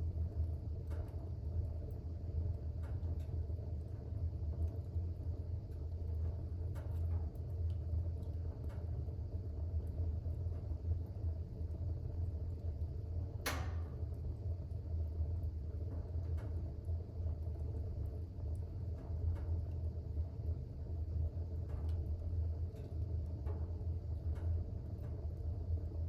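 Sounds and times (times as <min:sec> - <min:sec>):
fire crackling and popping: 0:00.0 - 0:26.0
fire rumbling in fireplace: 0:00.0 - 0:26.0.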